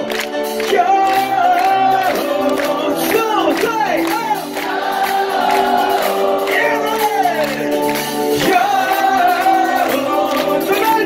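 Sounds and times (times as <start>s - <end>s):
live band playing: 0.0s - 11.0s
person singing: 0.6s - 11.0s.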